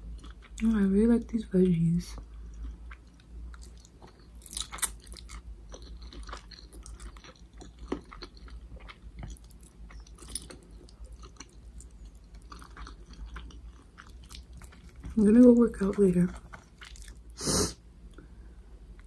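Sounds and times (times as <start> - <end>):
chewing and crunching food: 0.0 - 17.4
steady low hum: 0.0 - 19.0.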